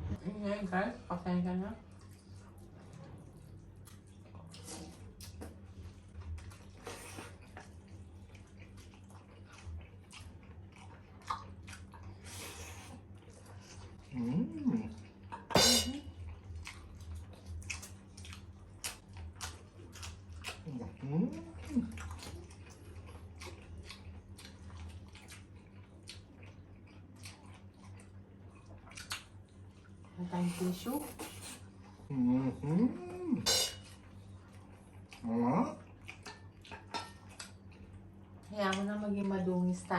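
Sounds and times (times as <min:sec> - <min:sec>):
steady low hum: 0:00.0 - 0:39.9
chewing ribs: 0:01.1 - 0:39.9.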